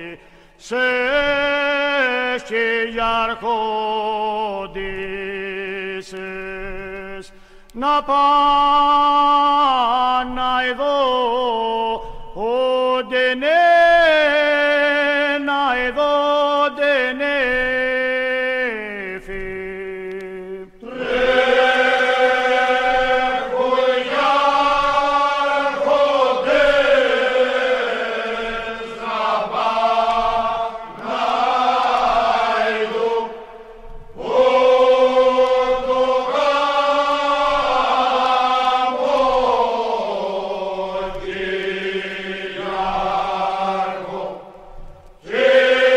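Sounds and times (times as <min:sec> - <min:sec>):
unaccompanied voices singing: 0:00.0 - 0:45.9.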